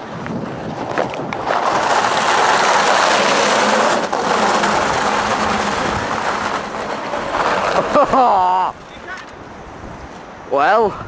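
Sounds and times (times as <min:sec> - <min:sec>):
kart wheels rolling on concrete: 0:00.0 - 0:10.4.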